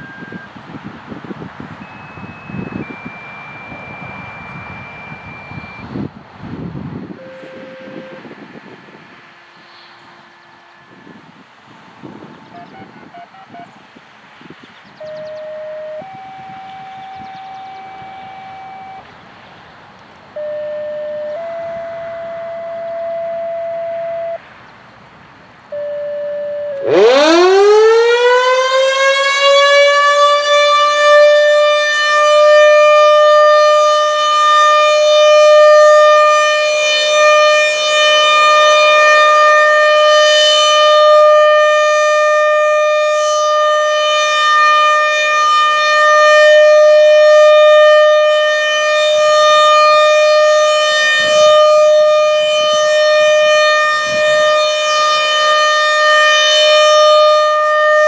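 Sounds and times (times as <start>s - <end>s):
warning siren steady tone: 0.0s - 6.2s, 7.0s - 13.8s, 14.5s - 19.2s, 20.3s - 24.5s, 25.6s - 58.0s.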